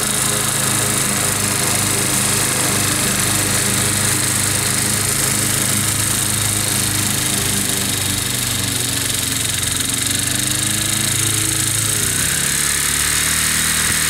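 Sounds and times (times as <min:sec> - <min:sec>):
ride-on mower cutting grass: 0:00.0 - 0:14.0.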